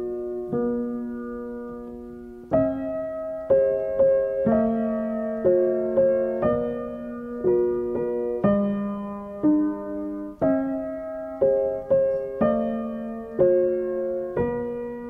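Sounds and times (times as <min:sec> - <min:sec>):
slow piano notes and chords: 0:00.0 - 0:15.0.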